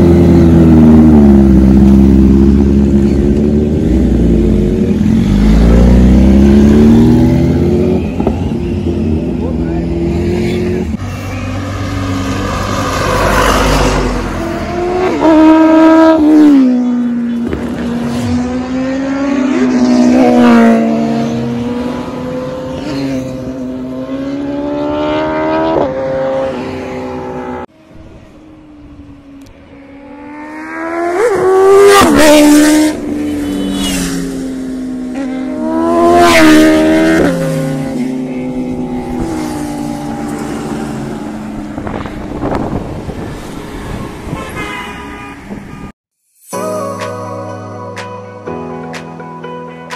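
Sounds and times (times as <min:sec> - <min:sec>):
motorcycle engines revving past: 0:00.0 - 0:27.7, 0:29.0 - 0:44.6.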